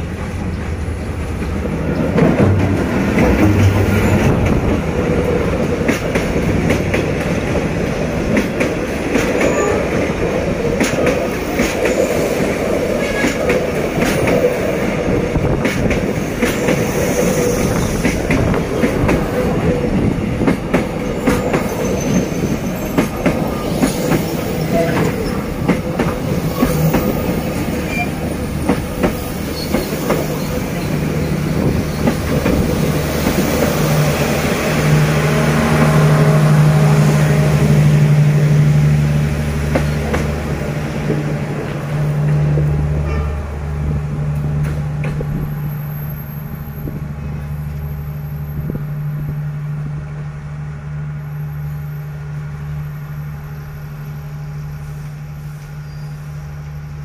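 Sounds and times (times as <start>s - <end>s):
locomotive engine hum: 0.0s - 12.0s, 13.6s - 57.0s
train wheels rumbling on rail: 0.0s - 57.0s.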